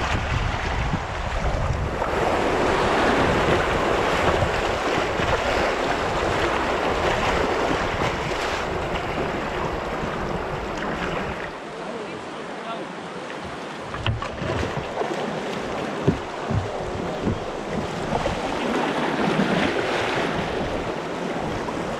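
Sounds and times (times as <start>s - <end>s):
wind buffeting microphone: 0.0s - 11.5s, 15.6s - 21.9s
whitewater rushing: 0.0s - 21.9s.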